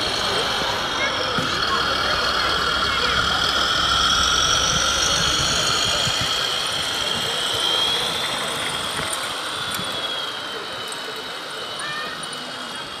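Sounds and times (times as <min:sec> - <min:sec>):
low rumble: 0:00.0 - 0:11.7
model truck motor whine: 0:00.0 - 0:13.0.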